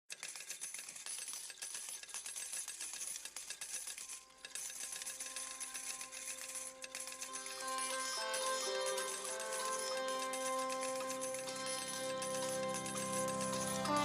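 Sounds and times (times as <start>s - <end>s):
coins clinking: 0.1s - 14.0s.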